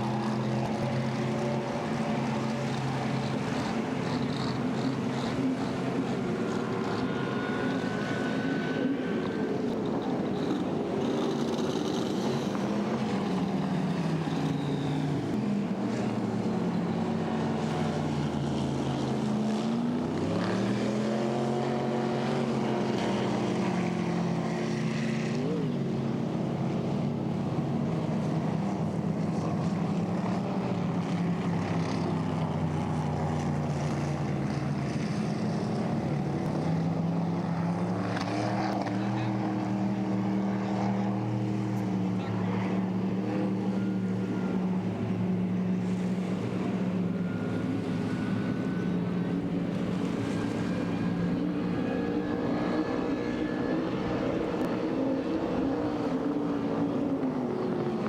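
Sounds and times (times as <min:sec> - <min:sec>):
racing boat engine: 0:00.0 - 0:58.0.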